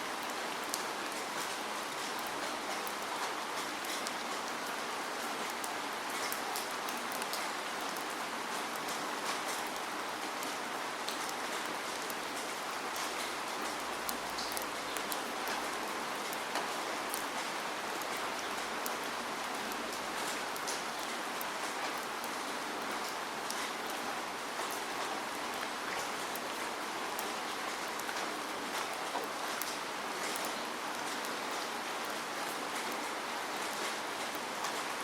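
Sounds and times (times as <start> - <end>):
raindrops ticking close by: 0.1 - 35.0.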